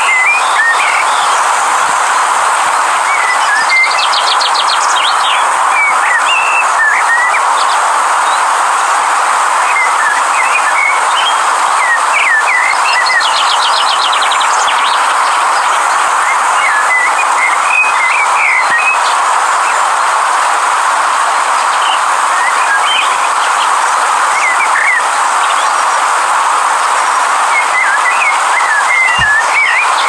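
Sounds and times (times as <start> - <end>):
birds chirping: 0.0 - 30.0
river rushing: 0.0 - 30.0.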